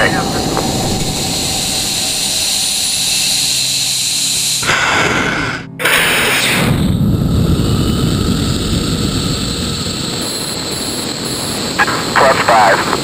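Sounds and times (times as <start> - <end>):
rocket motor roaring: 0.0 - 13.0.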